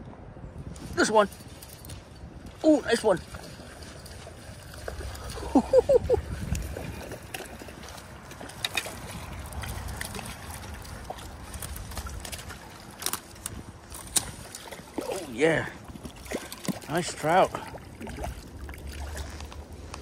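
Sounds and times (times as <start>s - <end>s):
fish thrashing and splashing water: 3.2s - 20.0s.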